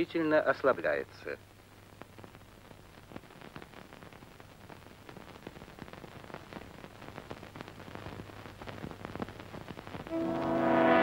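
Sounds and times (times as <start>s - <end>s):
film soundtrack hiss and crackle: 0.0s - 11.0s.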